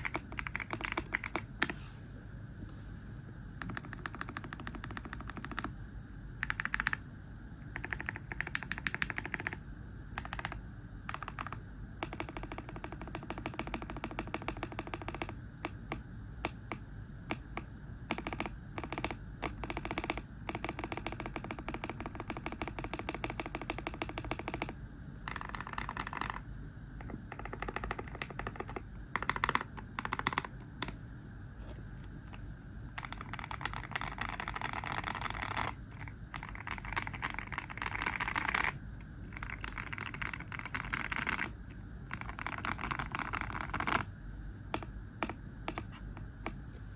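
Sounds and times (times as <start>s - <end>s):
mechanical keyboard typing: 0.0s - 1.7s, 3.6s - 5.7s, 6.4s - 7.0s, 7.7s - 9.6s, 10.2s - 31.0s, 33.0s - 44.1s.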